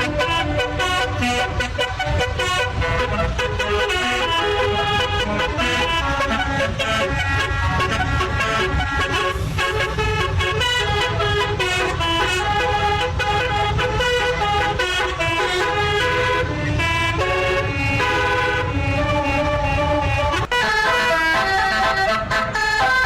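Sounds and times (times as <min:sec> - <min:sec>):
musical bus horn melody: 0:00.0 - 0:23.0.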